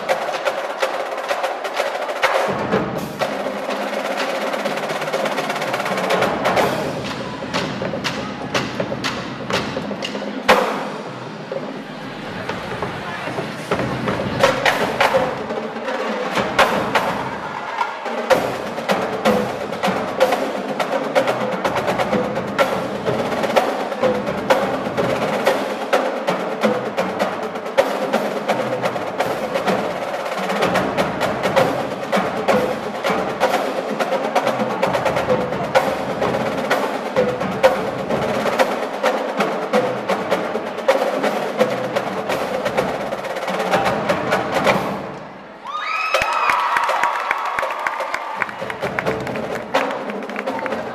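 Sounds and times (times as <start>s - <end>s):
drumline playing fast cadence: 0.0s - 50.9s.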